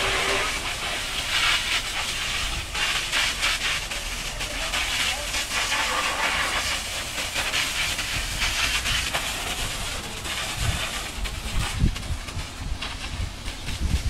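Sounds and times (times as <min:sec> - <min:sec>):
pressure washer jet hissing: 0:00.0 - 0:14.0
water splashing and running off: 0:00.0 - 0:14.0.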